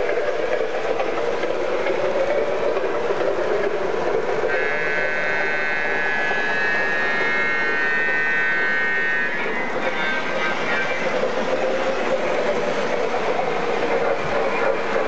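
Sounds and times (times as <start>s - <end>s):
model train cars rumbling: 0.0s - 15.0s.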